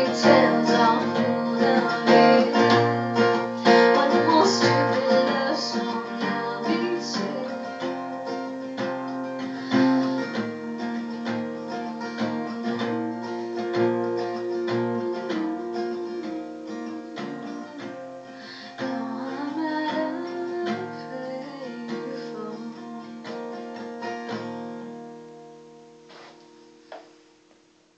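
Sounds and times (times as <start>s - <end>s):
acoustic guitar chords: 0.0s - 27.9s.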